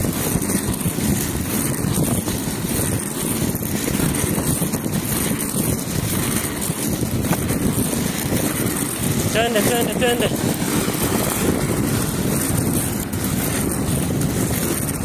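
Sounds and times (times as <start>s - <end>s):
wheels rolling on rough asphalt: 0.0s - 15.0s
wind on microphone: 0.0s - 15.0s.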